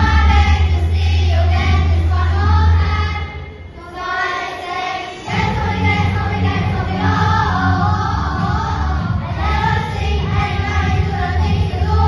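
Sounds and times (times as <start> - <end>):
deep bass line: 0.0 - 3.3, 5.3 - 12.0
children's choir singing: 0.0 - 12.0.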